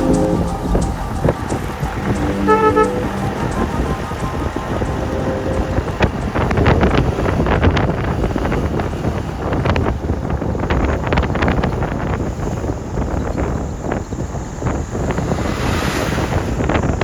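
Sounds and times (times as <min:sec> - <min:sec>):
vehicle rumble on road: 0:00.0 - 0:15.4
wind buffeting microphone: 0:00.0 - 0:17.0.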